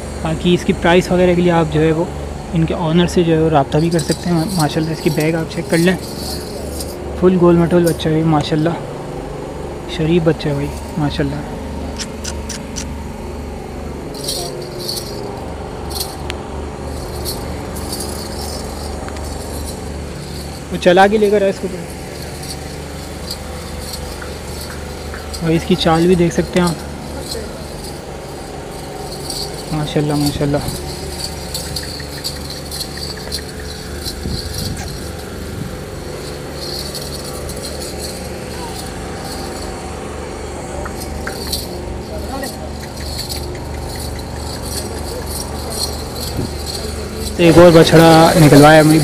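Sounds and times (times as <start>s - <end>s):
low mechanical hum: 0.0s - 49.0s
metal anklets jingling: 0.6s - 9.6s, 10.2s - 49.0s.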